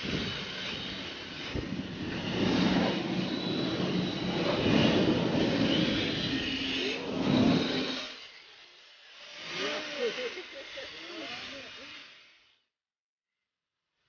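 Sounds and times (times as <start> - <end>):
rc car motor whine: 0.0 - 12.7.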